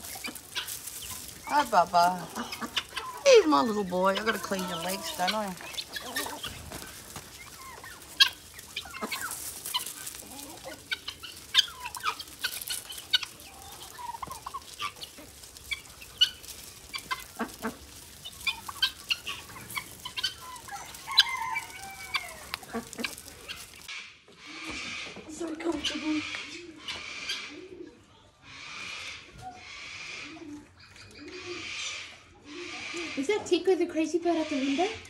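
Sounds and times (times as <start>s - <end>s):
birds clucking and calling: 0.0s - 35.0s.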